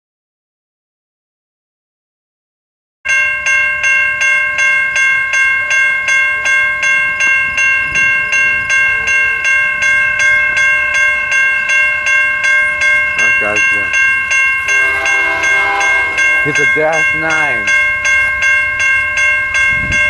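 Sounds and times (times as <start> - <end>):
railroad crossing bell ringing: 3.1 - 20.0.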